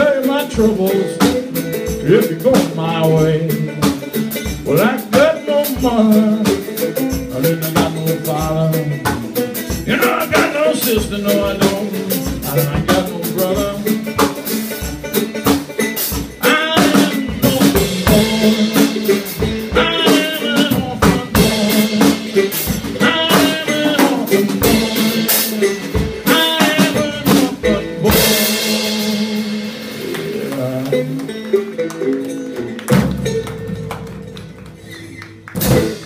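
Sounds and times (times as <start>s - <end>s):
cigar box guitar: 0.0s - 36.0s
drum kit beat: 0.0s - 36.0s.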